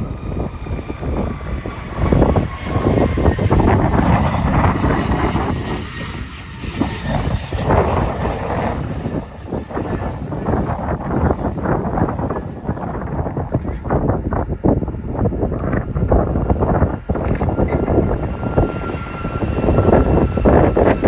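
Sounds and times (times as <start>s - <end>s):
jet airliner rumble: 0.0s - 21.0s
wind buffeting microphone: 0.0s - 21.0s.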